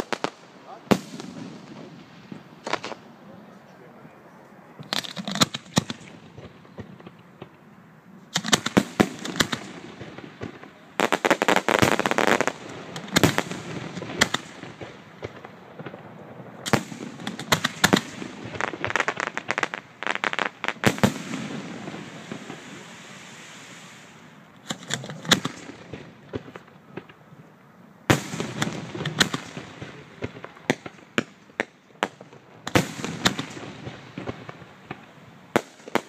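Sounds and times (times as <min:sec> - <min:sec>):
fireworks bangs: 0:00.0 - 0:04.0, 0:04.8 - 0:07.7, 0:08.3 - 0:27.3, 0:28.1 - 0:36.0
rapid fireworks crackling: 0:00.0 - 0:27.4, 0:28.1 - 0:36.0.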